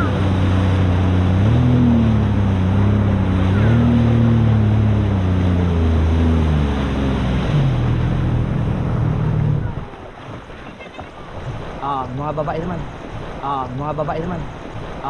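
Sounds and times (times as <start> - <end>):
jet ski engine running: 0.0 - 15.0
wind: 0.0 - 15.0.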